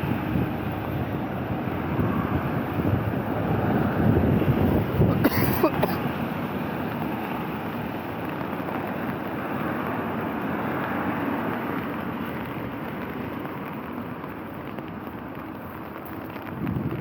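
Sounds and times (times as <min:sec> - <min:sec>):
wind on microphone: 0:00.0 - 0:05.3, 0:06.0 - 0:17.0
rain falling: 0:00.0 - 0:17.0.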